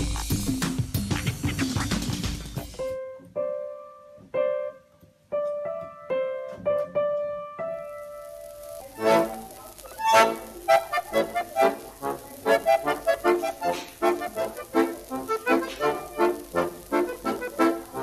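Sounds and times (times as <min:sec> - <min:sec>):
piano notes: 0:02.6 - 0:18.0.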